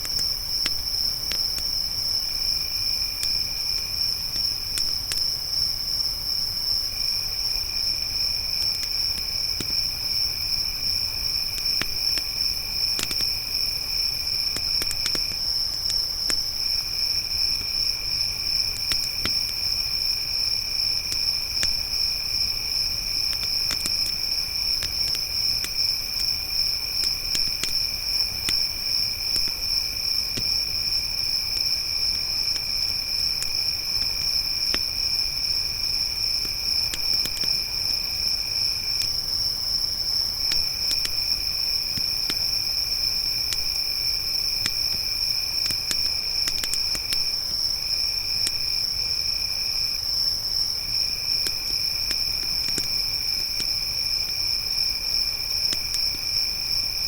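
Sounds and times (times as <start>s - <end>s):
campfire crackling: 0.0s - 6.0s, 6.7s - 49.6s, 51.2s - 56.6s
crickets chirping: 0.0s - 57.0s.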